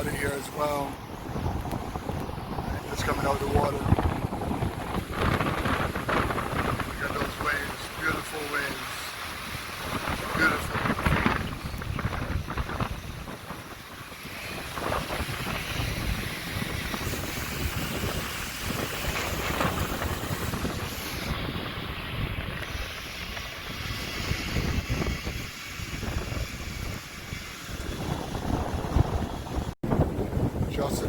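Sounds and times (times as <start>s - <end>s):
ocean surf on a beach: 0.0s - 31.0s
wind buffeting microphone: 0.0s - 31.0s.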